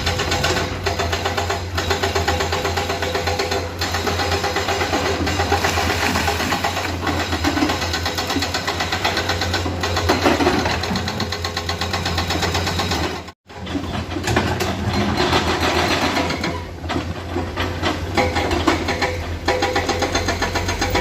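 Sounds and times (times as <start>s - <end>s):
excavator diesel engine clatter: 0.0s - 21.0s.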